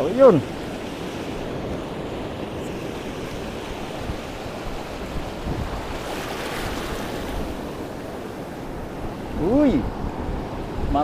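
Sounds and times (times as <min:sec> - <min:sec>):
sea water lapping: 0:00.0 - 0:11.0
wind buffeting microphone: 0:00.0 - 0:11.0.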